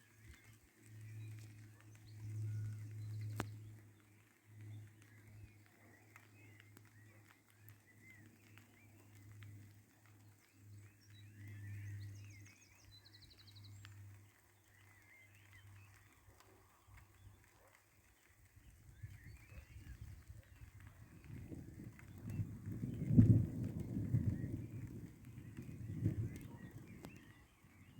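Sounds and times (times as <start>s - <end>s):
faint birdsong: 0.0s - 27.9s.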